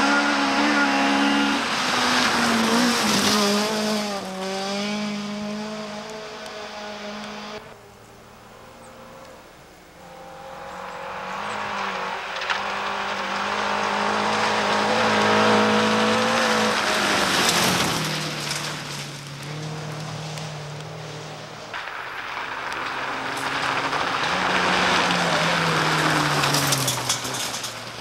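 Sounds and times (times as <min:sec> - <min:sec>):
gravel and tyre noise: 0:00.0 - 0:28.0
rally car engine passing: 0:00.0 - 0:28.0.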